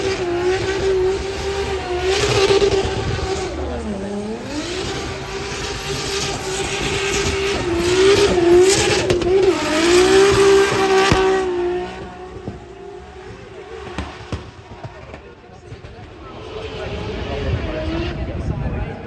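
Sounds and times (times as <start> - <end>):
car engine at high revs: 0.0 - 19.0.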